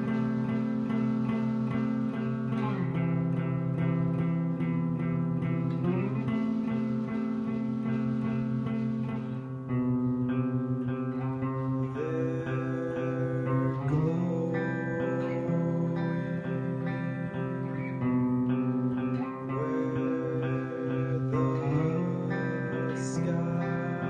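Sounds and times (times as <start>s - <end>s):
guitar chords and picking: 0.0s - 24.0s.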